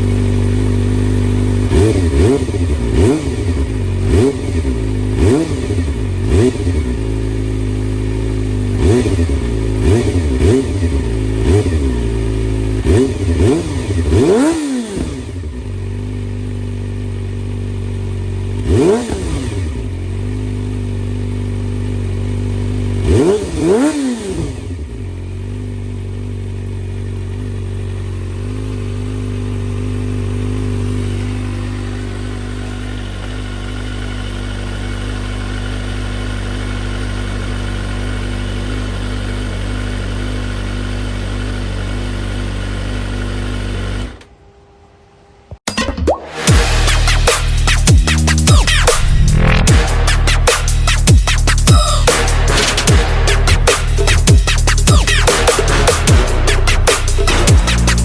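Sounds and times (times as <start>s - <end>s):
motorcycle engine idling: 0.0s - 14.5s, 15.2s - 23.9s, 24.6s - 44.2s, 47.9s - 58.0s
motorcycle throttle revs: 0.0s - 44.3s, 46.4s - 58.0s.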